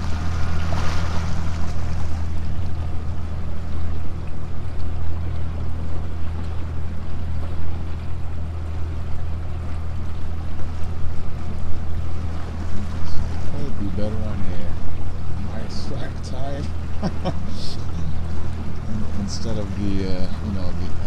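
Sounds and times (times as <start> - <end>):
boat motor humming: 0.0 - 21.0
water splashing along hull: 0.0 - 21.0.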